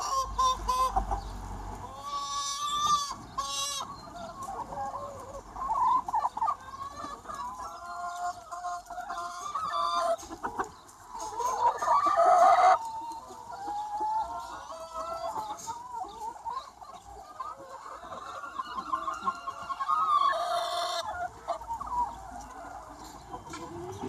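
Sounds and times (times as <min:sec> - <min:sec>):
loud chicken call: 0:00.0 - 0:01.2, 0:01.8 - 0:10.6, 0:11.2 - 0:24.0
chickens clucking: 0:00.0 - 0:24.0.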